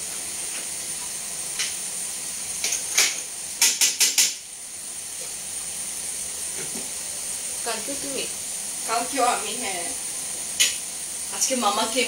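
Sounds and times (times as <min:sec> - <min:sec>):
curry sizzling: 0:00.0 - 0:12.0.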